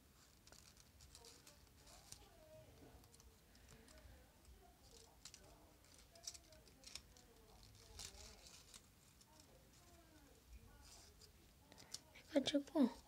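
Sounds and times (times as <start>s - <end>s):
soft paper crackles: 0.0s - 13.0s
paper rustling and crinkling: 0.1s - 12.1s.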